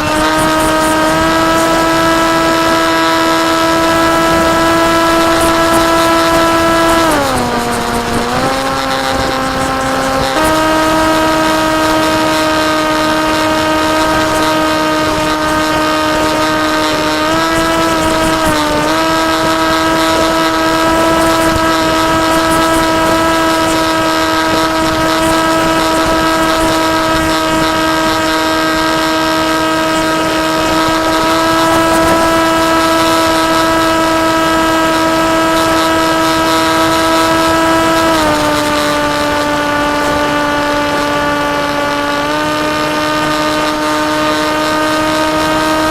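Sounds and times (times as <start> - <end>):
electric motor and propeller whine: 0.0 - 45.9
wind rush: 0.0 - 45.9.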